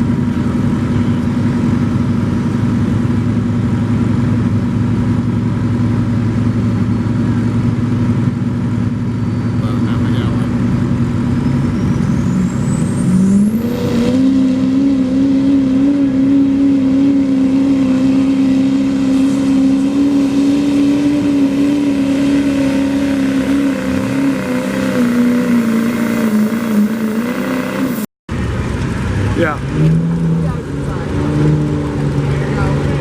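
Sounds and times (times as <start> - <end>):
diesel engine at full throttle: 0.0 - 33.0
high whine: 0.0 - 33.0.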